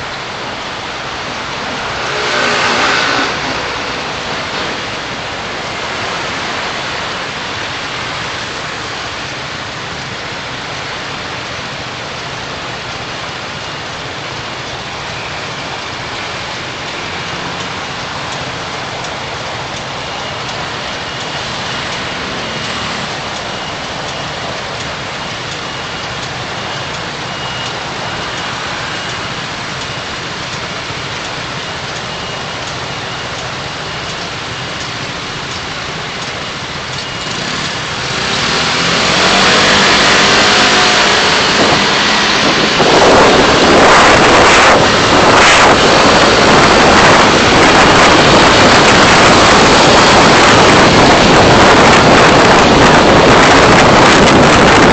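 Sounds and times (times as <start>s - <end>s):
rain and tyre hiss inside car: 0.0s - 54.9s.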